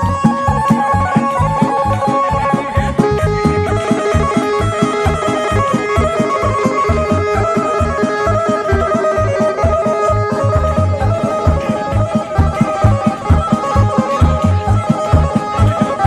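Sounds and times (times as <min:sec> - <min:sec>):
folk dance music: 0:00.0 - 0:16.0.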